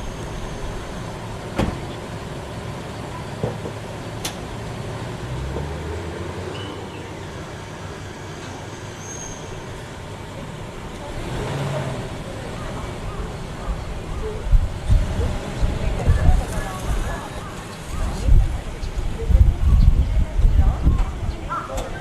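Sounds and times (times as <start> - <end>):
distant traffic hum: 0.0 - 22.0.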